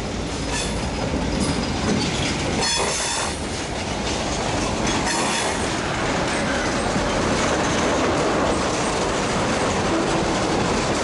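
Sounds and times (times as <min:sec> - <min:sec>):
freight train passing: 0:00.0 - 0:11.0
wheels clicking over rail joints: 0:00.5 - 0:11.0.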